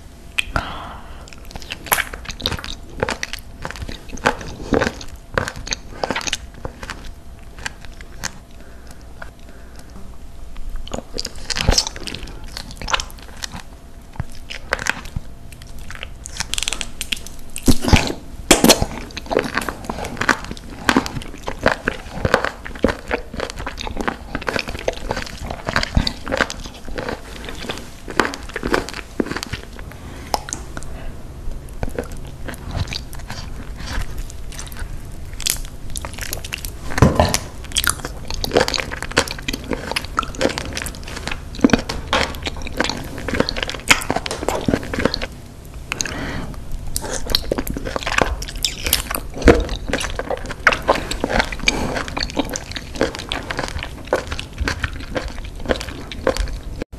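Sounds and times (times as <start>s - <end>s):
wet chewing and sucking: 0.3s - 56.8s.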